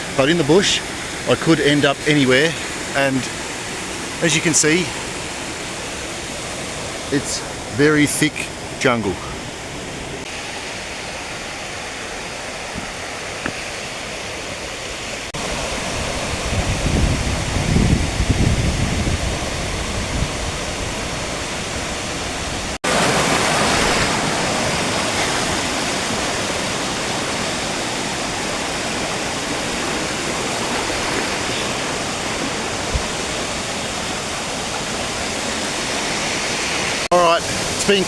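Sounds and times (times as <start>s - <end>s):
creek and waterfall rushing: 0.0s - 38.0s.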